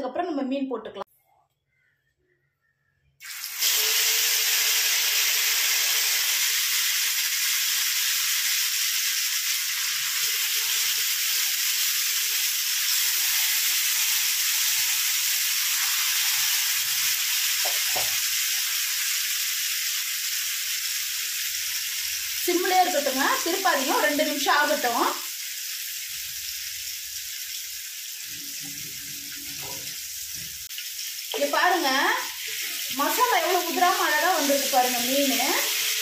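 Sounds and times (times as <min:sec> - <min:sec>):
fish sizzling in hot oil: 0:03.2 - 0:36.0.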